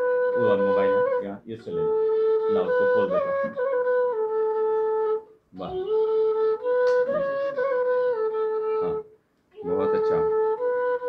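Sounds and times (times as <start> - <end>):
bamboo flute held notes: 0.0 - 11.0.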